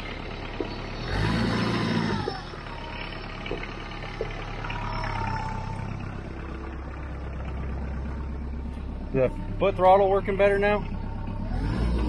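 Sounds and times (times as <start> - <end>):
tractor engine revving: 0.0 - 12.0.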